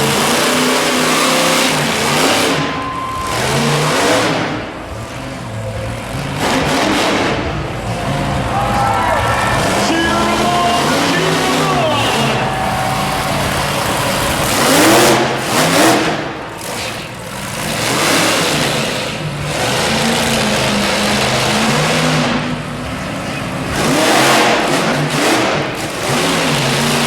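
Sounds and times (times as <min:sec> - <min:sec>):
truck engine revving hard: 0:00.0 - 0:27.0.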